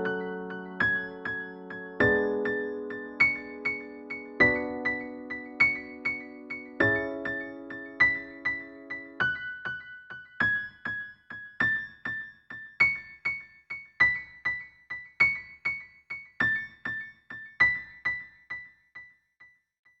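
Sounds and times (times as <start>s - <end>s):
gentle piano-like keyboard music: 0.0s - 19.2s.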